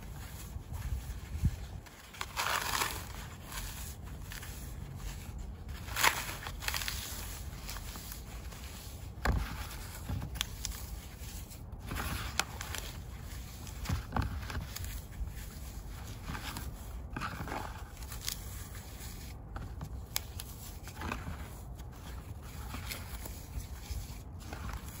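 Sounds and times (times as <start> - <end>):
floral foam crunching: 0.0 - 25.0.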